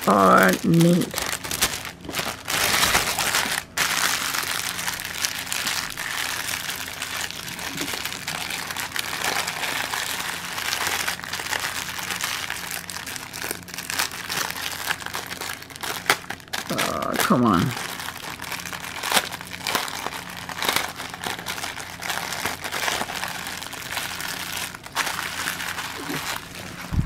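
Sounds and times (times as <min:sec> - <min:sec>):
plastic bags crinkling: 0:00.0 - 0:27.0.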